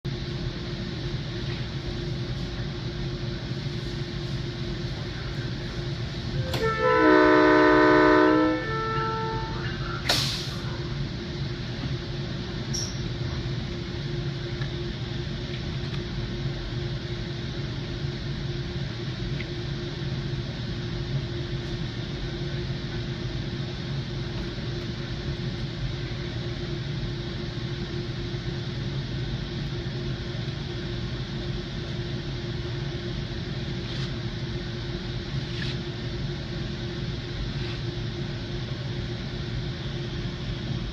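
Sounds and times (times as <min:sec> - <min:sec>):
stationary train low hum: 0:00.0 - 0:40.9.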